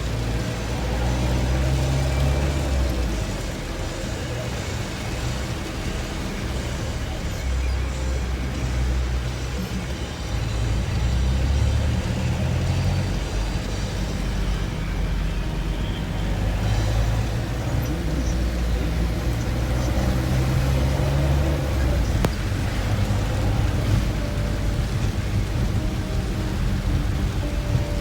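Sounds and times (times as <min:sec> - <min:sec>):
car engine and tyre rumble: 0:00.0 - 0:28.0
road hiss: 0:00.0 - 0:28.0.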